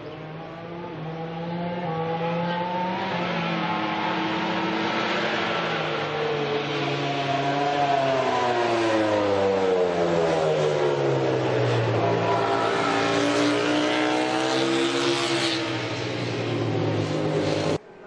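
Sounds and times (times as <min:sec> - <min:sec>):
racing motorcycle engine: 0:00.0 - 0:17.8.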